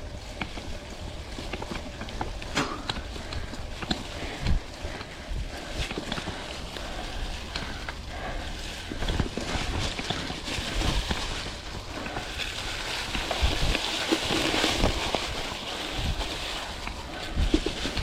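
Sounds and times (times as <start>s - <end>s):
bike rattling over bumps: 0.0s - 18.0s
bike tyres on dirt: 0.0s - 18.0s
wind rumble on camera: 0.0s - 18.0s.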